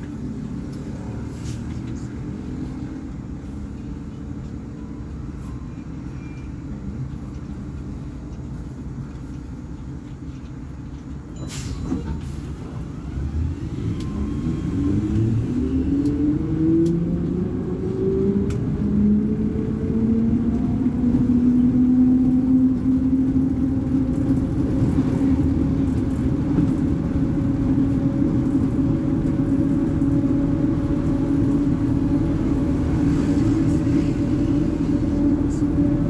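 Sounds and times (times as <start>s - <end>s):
diesel bus engine: 0.0s - 36.0s.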